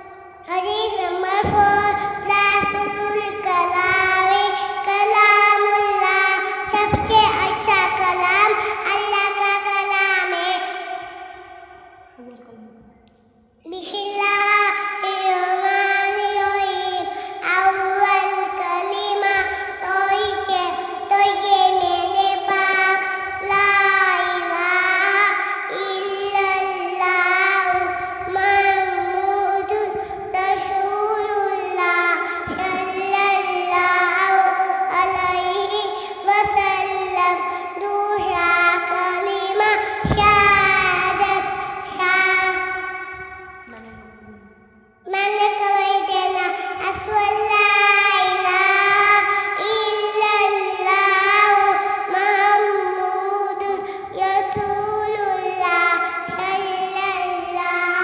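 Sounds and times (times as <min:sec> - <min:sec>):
girl singing a melodic chant: 0:00.0 - 0:58.0.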